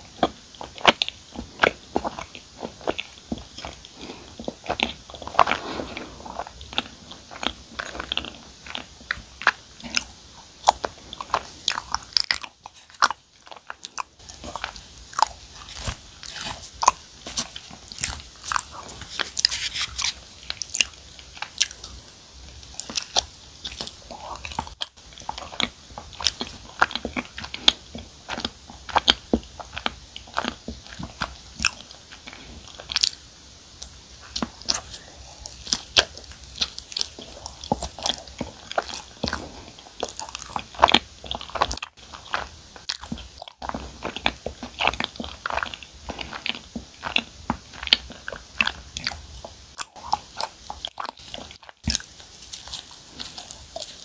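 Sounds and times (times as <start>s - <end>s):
close chewing mouth clicks: 0.0s - 54.0s.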